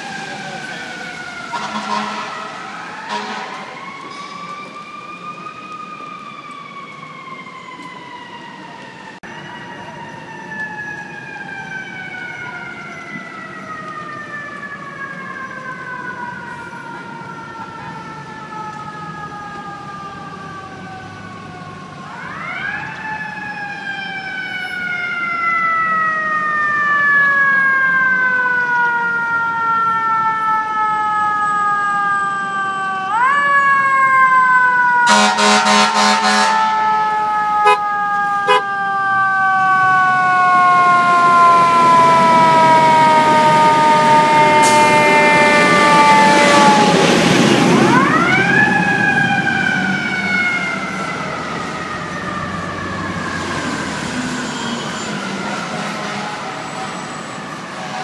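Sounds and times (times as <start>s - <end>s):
city traffic: 0.0s - 58.0s
fire truck siren wailing: 0.0s - 58.0s.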